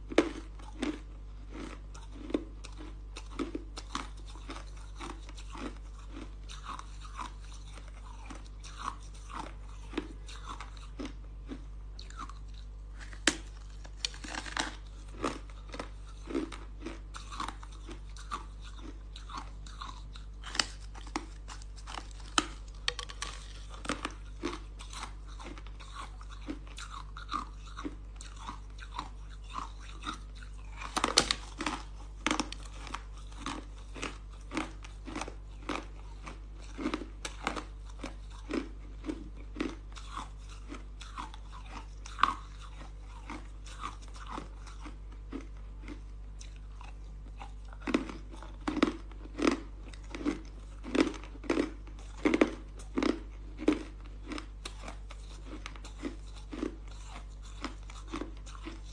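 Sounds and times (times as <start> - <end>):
chewing and crunching ice: 0.0 - 58.9.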